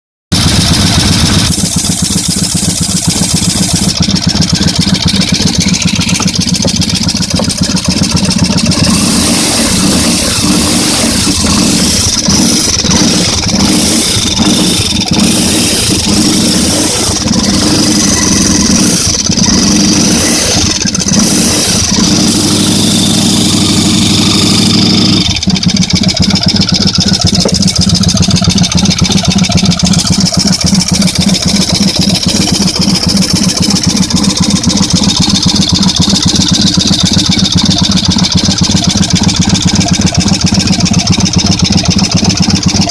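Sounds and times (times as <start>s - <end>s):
abnormal engine noise: 0.3s - 42.9s
motorcycle engine running: 0.3s - 42.9s.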